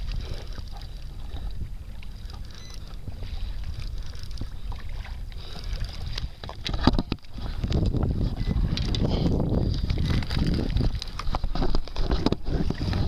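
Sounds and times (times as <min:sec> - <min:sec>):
water against kayak: 0:00.0 - 0:13.0
wind on microphone: 0:00.0 - 0:13.0.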